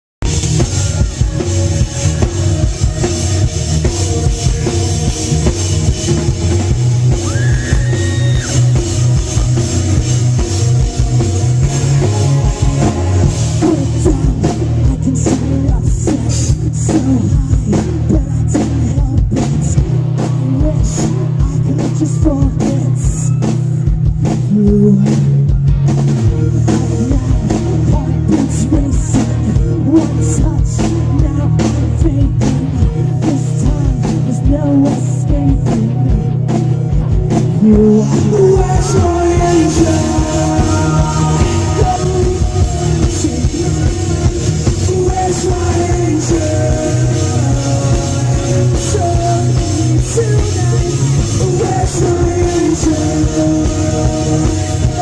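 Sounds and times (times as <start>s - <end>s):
person singing: 0.2s - 25.7s, 26.3s - 55.0s
heavy booming bass: 0.2s - 55.0s
live pop-rock band playing: 0.2s - 55.0s.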